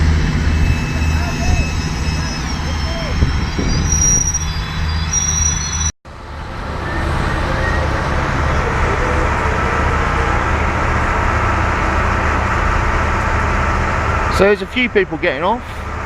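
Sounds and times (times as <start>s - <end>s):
steady rush of noise: 0.0s - 14.8s
diesel locomotive engine hum: 0.0s - 16.0s.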